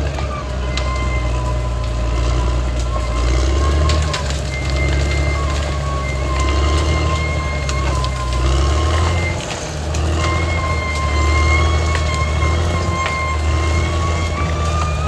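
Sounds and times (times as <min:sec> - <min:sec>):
bulldozer diesel engine under load: 0:00.0 - 0:15.0
clanking tracks: 0:00.0 - 0:15.0.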